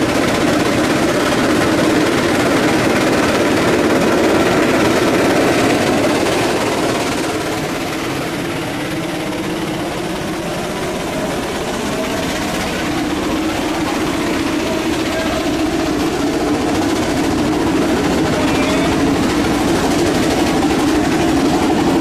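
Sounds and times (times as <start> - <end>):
steam traction engine running: 0.0 - 22.0.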